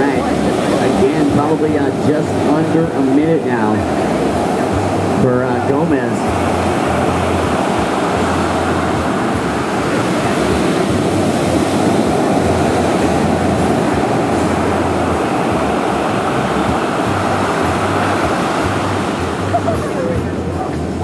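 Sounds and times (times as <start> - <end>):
surf: 0.0 - 21.0
wind: 0.0 - 21.0.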